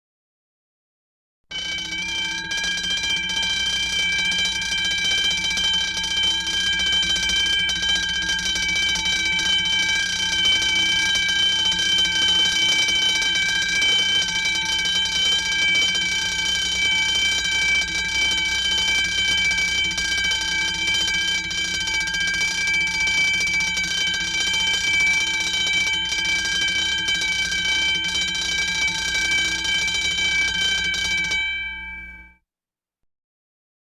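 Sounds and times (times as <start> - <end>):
fire alarm ringing: 1.5 - 32.4.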